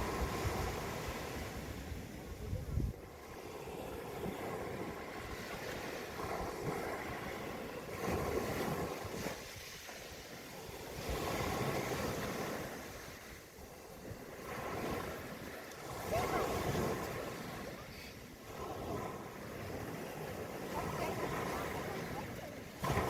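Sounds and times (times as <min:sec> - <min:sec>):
ocean waves washing onto beach: 0:00.0 - 0:23.0.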